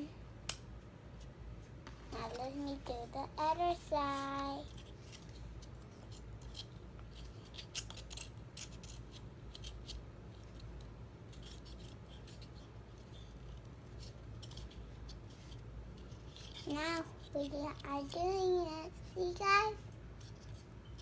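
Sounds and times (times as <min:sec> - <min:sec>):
light scraping of pieces: 0:01.2 - 0:21.0.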